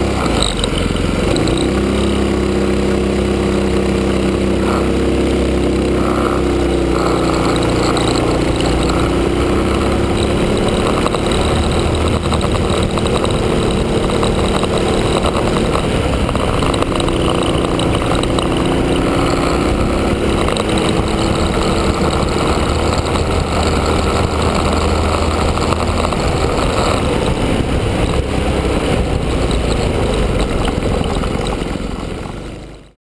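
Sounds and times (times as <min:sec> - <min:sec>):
rush of noise: 0:00.0 - 0:32.6
kart engine running: 0:00.0 - 0:33.0.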